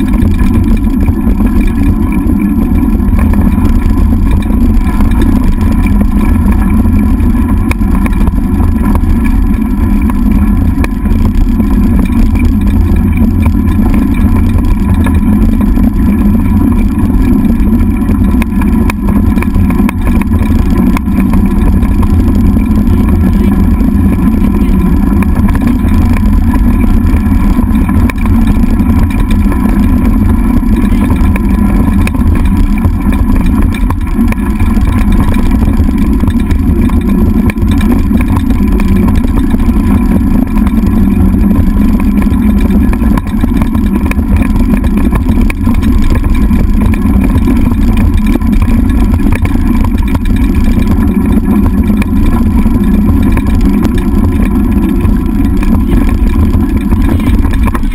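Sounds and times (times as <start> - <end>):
wheels rolling over gravel: 0.0 - 57.9.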